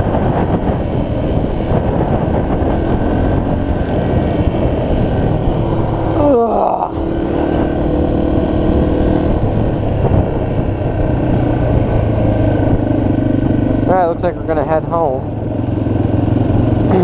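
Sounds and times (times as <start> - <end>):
motorcycle engine running: 0.0 - 17.0
wind rushing past microphone: 0.0 - 17.0.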